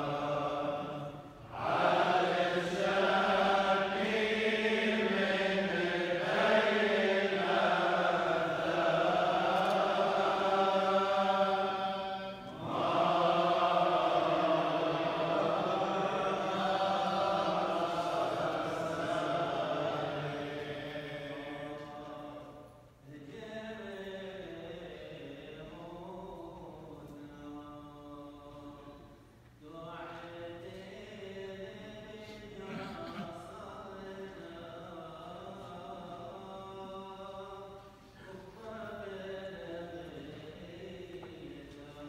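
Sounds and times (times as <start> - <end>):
clergy chanting prayers: 0.0 - 42.0.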